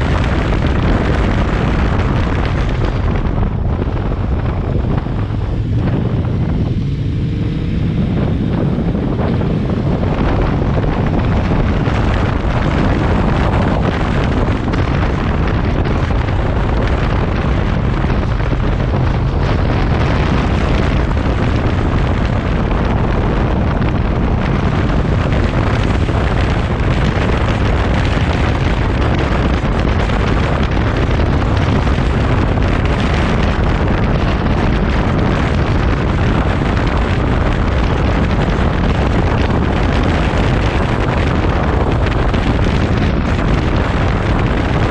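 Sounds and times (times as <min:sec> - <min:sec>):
motorcycle engine drone: 0:00.0 - 0:44.9
wind buffeting microphone: 0:00.0 - 0:44.9.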